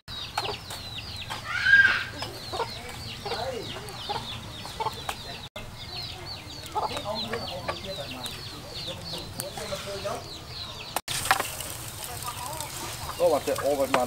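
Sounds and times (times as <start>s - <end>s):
chicks peeping: 0.1s - 14.0s
hens clucking: 0.2s - 14.0s.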